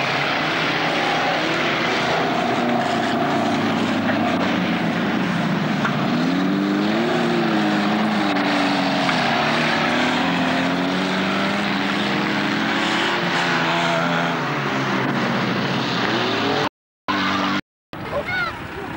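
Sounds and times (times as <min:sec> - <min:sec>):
race car engines revving: 0:00.0 - 0:18.9.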